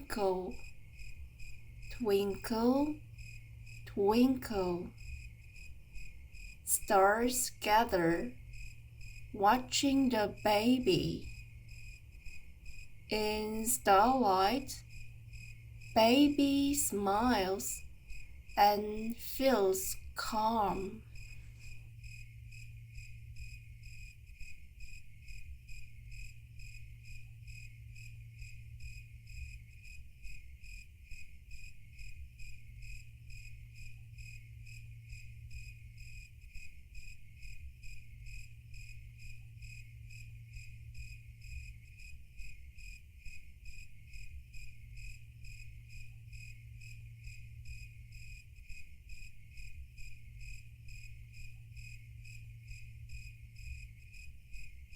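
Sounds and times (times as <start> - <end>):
crickets chirping: 0.0 - 54.9
steady low hum: 0.0 - 54.9.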